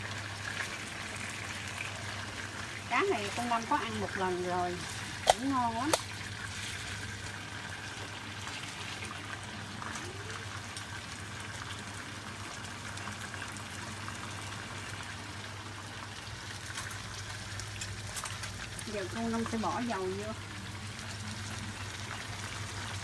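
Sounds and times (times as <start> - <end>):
fish frying in oil: 0.0 - 23.0.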